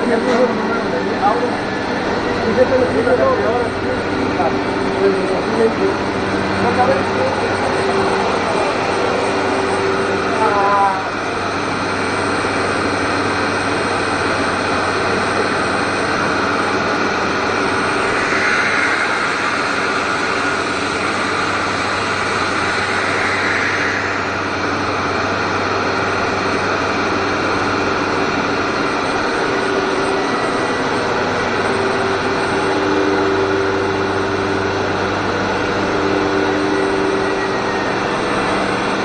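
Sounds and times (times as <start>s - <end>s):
high-pitched machine whine: 0.0s - 39.0s
workshop machinery humming: 0.0s - 39.0s.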